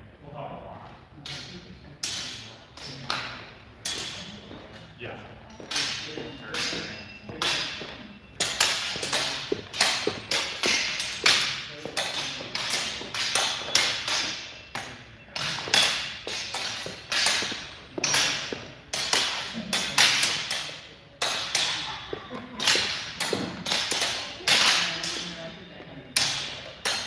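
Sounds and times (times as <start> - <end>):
steel swords clashing: 1.2 - 4.6, 5.5 - 27.0.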